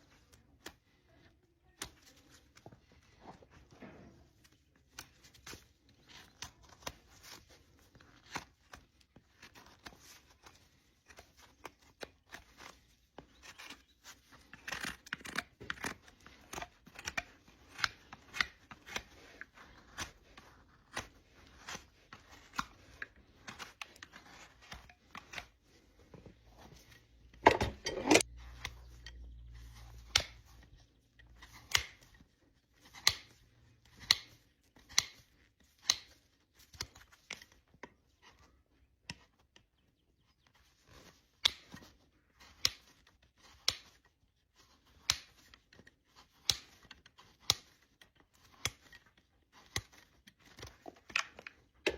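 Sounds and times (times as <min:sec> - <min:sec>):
tools snipping and scraping hoof: 0:00.0 - 0:51.9.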